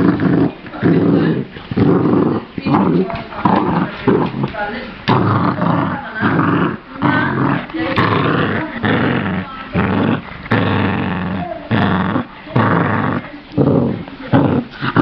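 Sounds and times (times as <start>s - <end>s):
puppy chewing rope toy: 0.0s - 15.0s
puppy play growling: 0.0s - 15.0s.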